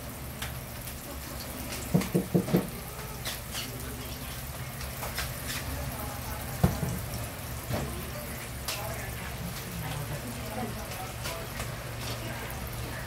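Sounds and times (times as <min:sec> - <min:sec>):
butter sizzling in a wok: 0:00.0 - 0:13.0.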